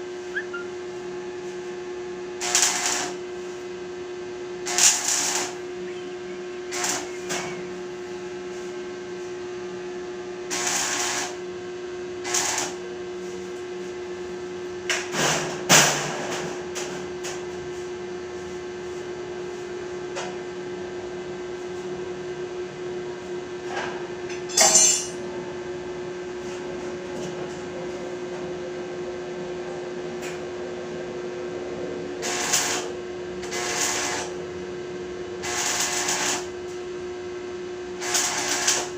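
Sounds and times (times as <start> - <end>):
arc welding machine hum: 0.0 - 38.9.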